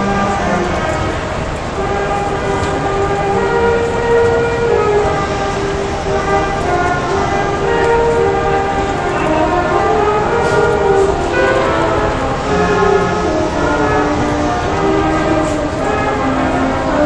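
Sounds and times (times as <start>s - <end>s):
brass band playing held chords: 0.0s - 17.0s.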